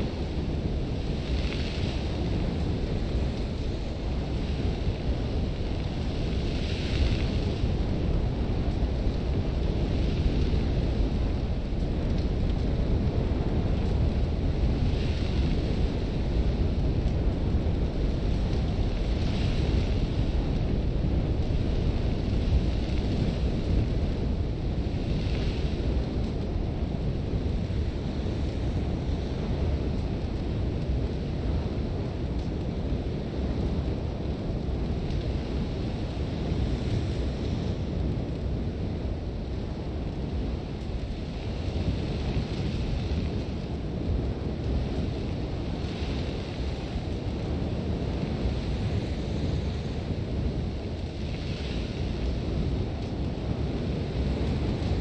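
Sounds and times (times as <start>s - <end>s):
wind blowing: 0.0s - 55.0s.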